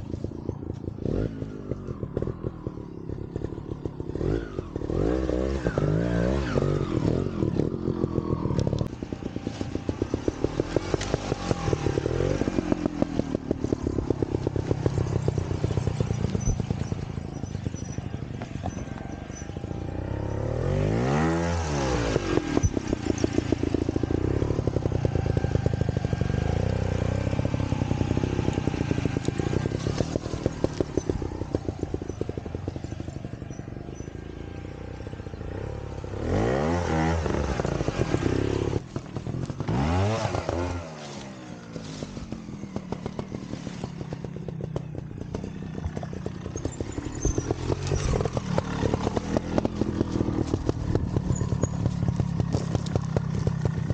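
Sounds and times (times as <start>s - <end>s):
motorcycle engine popping at low revs: 0.0s - 53.9s
motorcycle throttle blips: 0.0s - 53.9s.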